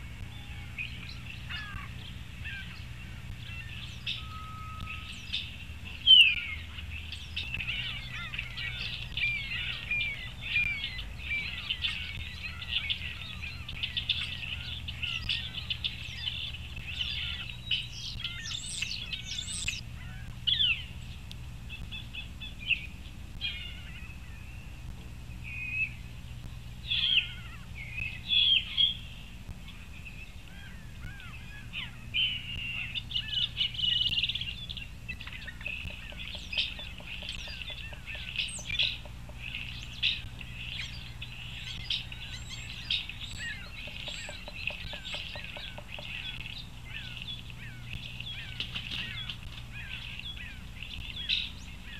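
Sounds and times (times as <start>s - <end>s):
songbirds chirping: 0.0s - 51.9s
steady low hum: 0.0s - 51.9s.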